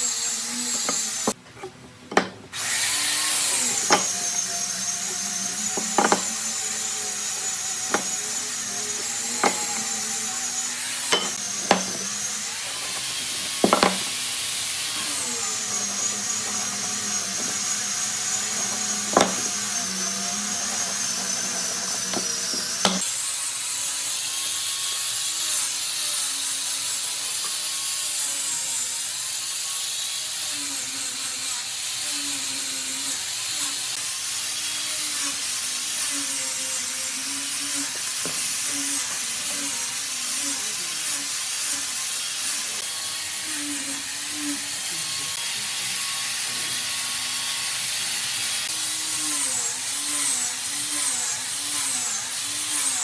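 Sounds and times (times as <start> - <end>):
power tool whine: 0.0 - 1.4, 2.0 - 53.0
power tool cutting wood: 0.0 - 53.0.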